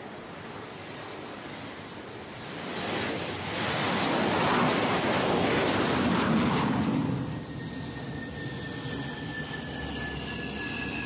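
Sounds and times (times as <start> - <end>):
jet aircraft rushing whine: 0.0 - 11.0.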